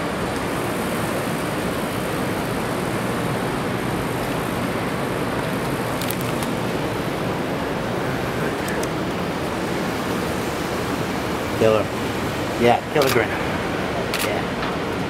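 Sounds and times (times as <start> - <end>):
city traffic roar: 0.0 - 15.0.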